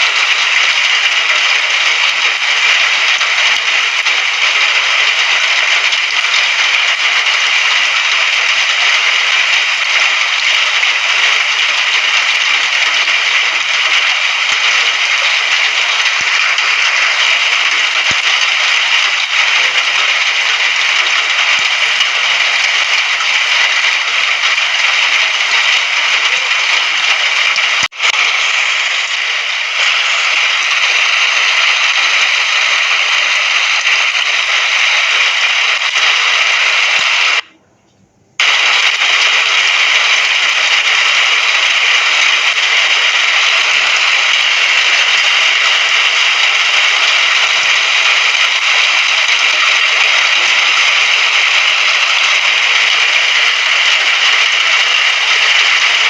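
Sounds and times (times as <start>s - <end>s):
rain hiss: 0.0s - 37.5s, 38.4s - 56.0s.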